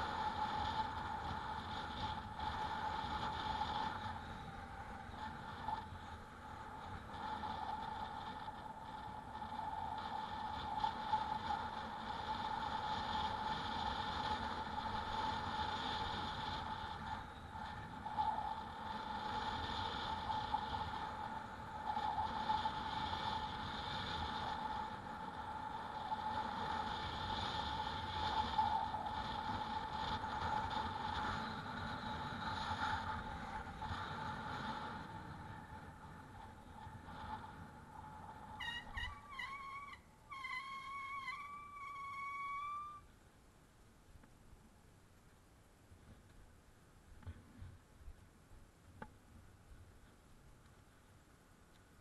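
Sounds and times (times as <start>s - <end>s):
e-bike motor whine: 0.0s - 43.1s
wind: 0.0s - 52.0s.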